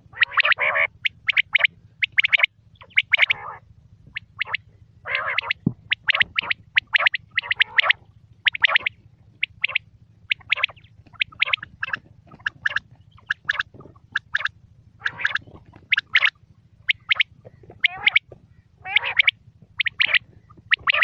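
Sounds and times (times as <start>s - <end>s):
faint steady hum: 0.0s - 21.0s
quail calling: 0.0s - 21.0s.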